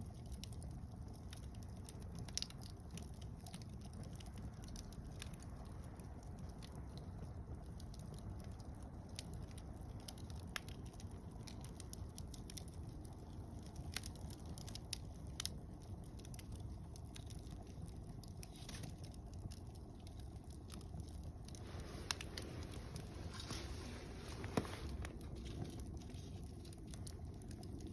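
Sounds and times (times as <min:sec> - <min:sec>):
fire low rumble: 0:00.0 - 0:27.9
wood fire crackling and popping: 0:00.0 - 0:27.9.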